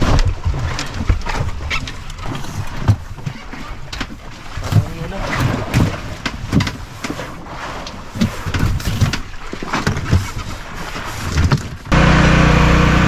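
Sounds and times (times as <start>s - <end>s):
knocks and thumps on boat deck: 0.0s - 12.0s.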